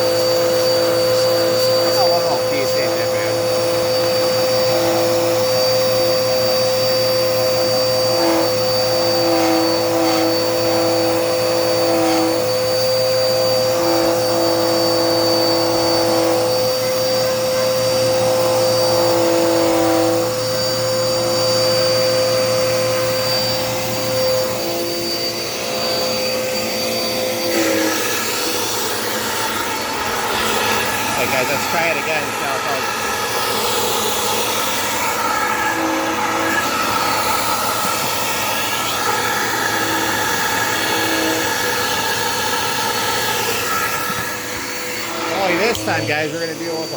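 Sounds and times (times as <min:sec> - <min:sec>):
vacuum cleaner running: 0:00.0 - 0:46.9
vacuum cleaner whine: 0:00.0 - 0:46.9.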